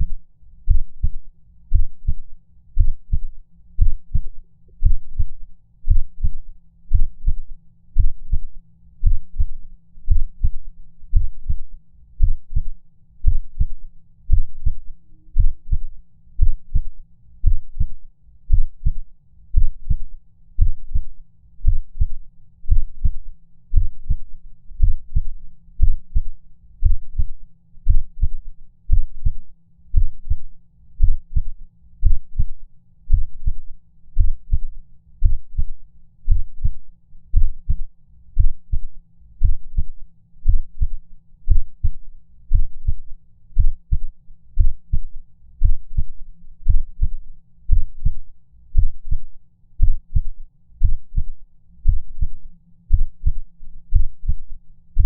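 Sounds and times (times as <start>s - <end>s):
heartbeat thumps: 0.7s - 2.2s, 2.8s - 7.4s, 8.0s - 11.6s, 12.2s - 19.0s, 19.6s - 20.0s, 20.6s - 29.4s, 30.0s - 30.4s, 31.0s - 37.8s, 38.4s - 54.4s.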